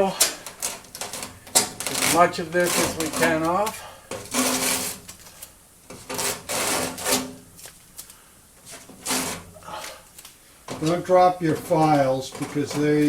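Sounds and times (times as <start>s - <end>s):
backing tape peeling off: 0.0s - 13.0s.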